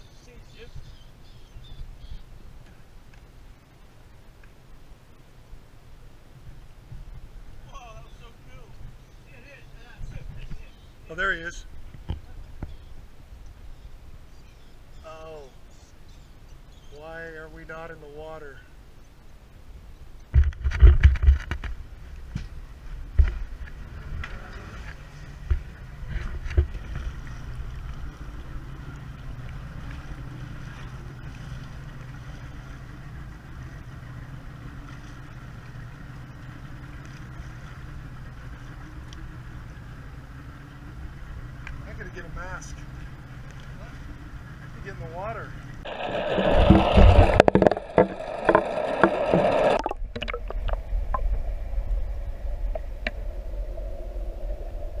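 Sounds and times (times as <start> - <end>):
motorboat engine humming: 0.0 - 55.0
water noise: 0.0 - 55.0
wind: 0.0 - 55.0.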